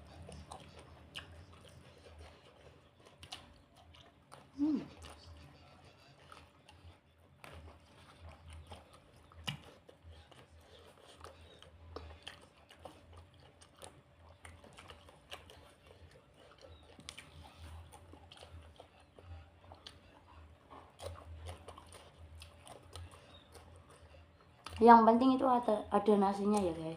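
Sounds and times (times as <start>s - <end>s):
chewing and crunching food: 0.0s - 26.9s.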